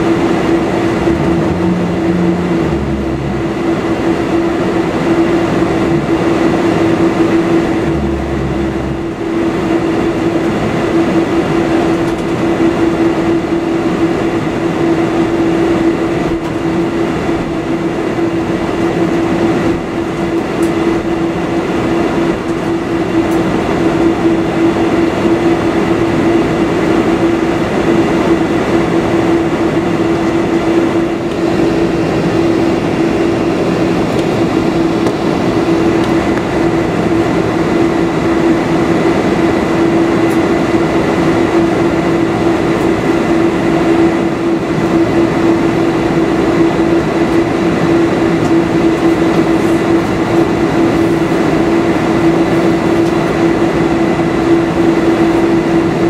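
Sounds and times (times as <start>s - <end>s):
jet engines idling drone: 0.0s - 56.0s.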